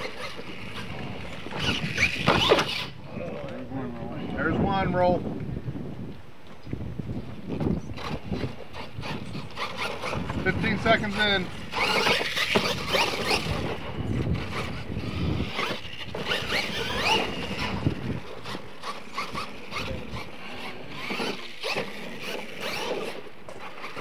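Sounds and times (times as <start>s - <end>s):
toy truck motor whining: 0.0s - 3.6s, 7.6s - 24.0s
tyre and chassis rumble: 0.0s - 4.8s, 5.8s - 24.0s.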